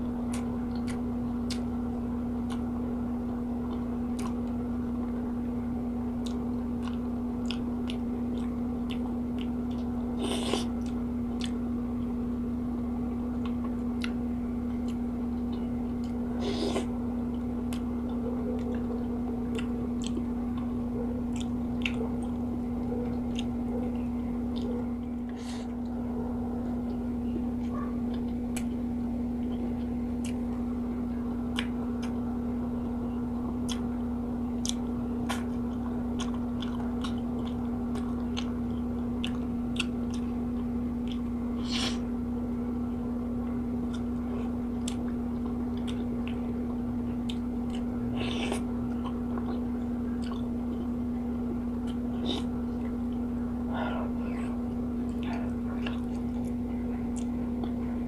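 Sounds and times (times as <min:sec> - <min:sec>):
steady low hum: 0:00.0 - 0:58.0
close-up chewing: 0:00.3 - 0:01.8, 0:03.3 - 0:05.2, 0:06.2 - 0:12.2, 0:13.3 - 0:30.6, 0:32.8 - 0:42.1, 0:43.4 - 0:58.0.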